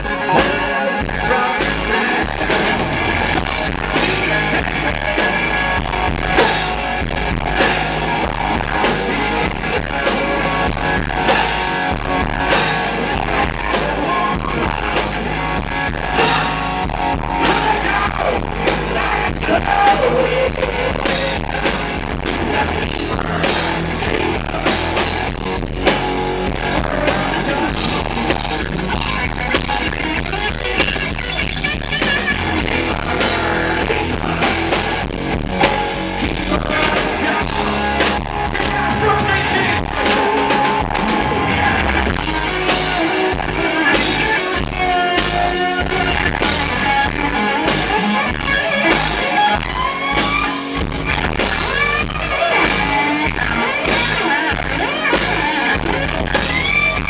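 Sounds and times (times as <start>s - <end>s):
electric guitar lead with bent notes: 0.0s - 57.0s
live rock band: 0.0s - 57.0s.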